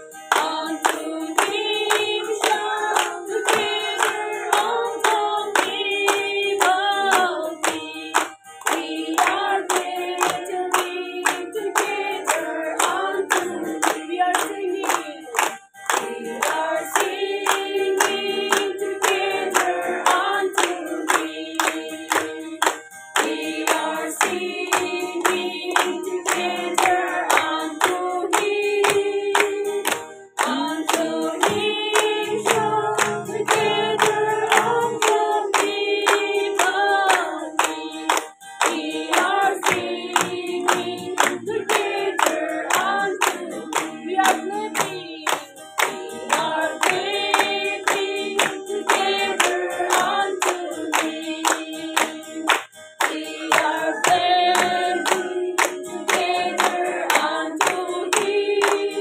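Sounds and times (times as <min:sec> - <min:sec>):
acoustic guitar: 0:00.0 - 0:59.0
group singing worship song: 0:00.0 - 0:59.0
hands clapping on the beat: 0:00.0 - 0:59.0.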